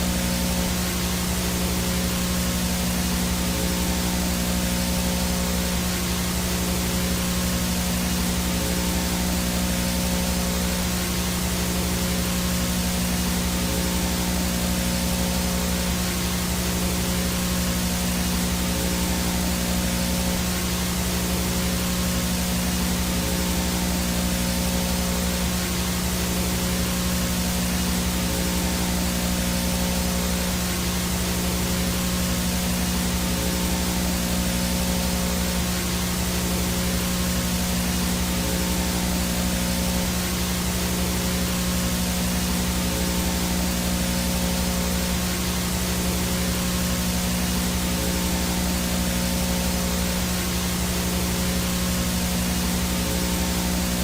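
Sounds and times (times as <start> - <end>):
low electrical hum: 0.0 - 54.0
static white noise hiss: 0.0 - 54.0.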